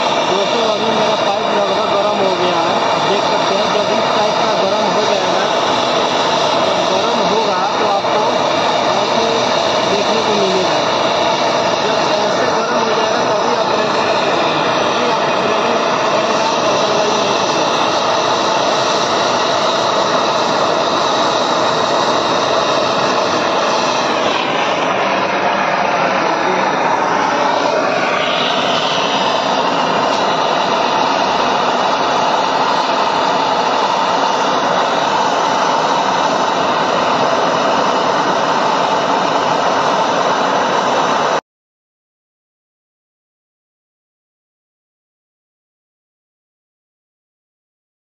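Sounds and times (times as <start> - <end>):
torch flame hissing: 0.0 - 41.4.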